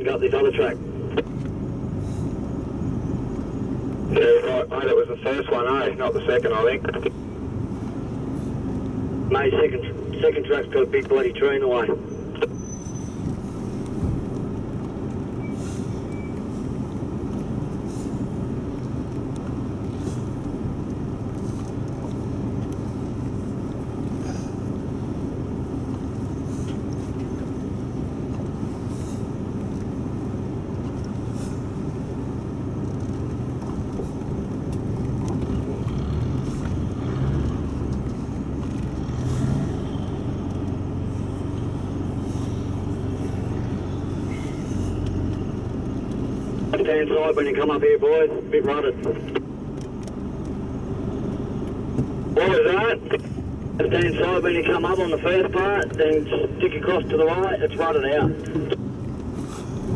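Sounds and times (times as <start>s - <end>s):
car engine running at low revs: 0.0s - 59.9s.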